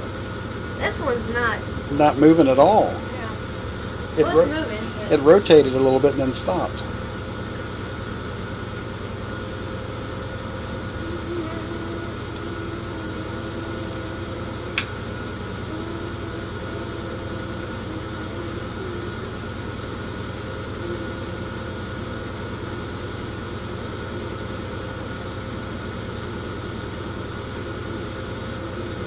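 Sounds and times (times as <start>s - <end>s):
vibrating device hum and buzz: 0.0s - 29.0s.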